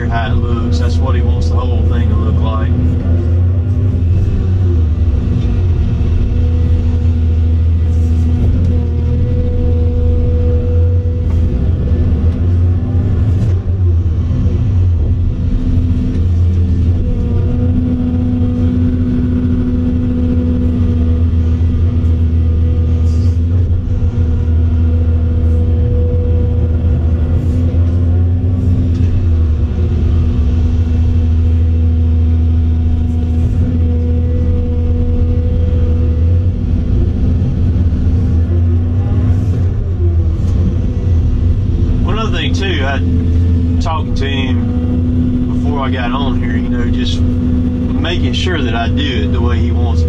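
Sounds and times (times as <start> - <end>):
excavator diesel engine running: 0.0 - 50.0
hydraulic whine: 0.0 - 50.0.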